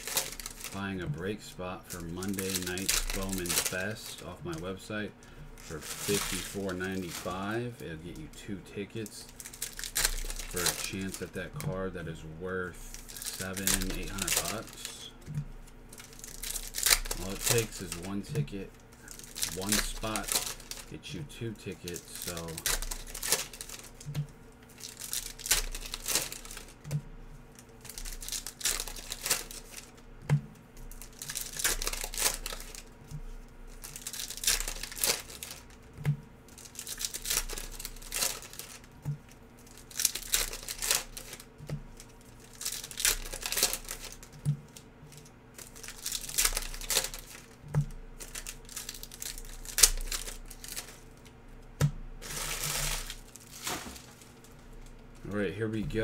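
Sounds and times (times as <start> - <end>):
plastic packaging crinkling and tearing: 0.0 - 56.0.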